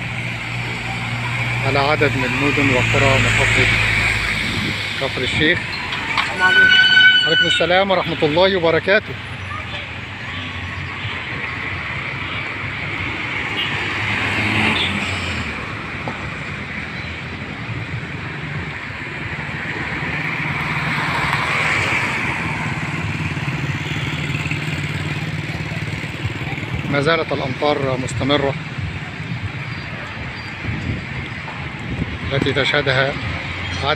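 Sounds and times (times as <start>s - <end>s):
tyre noise on wet road: 0.0s - 8.5s, 9.1s - 33.9s.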